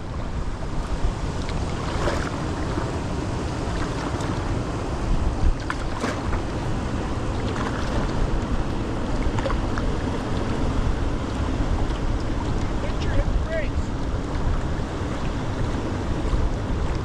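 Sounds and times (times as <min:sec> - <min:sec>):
moving water: 0:00.0 - 0:17.0
wind buffeting microphone: 0:00.0 - 0:17.0.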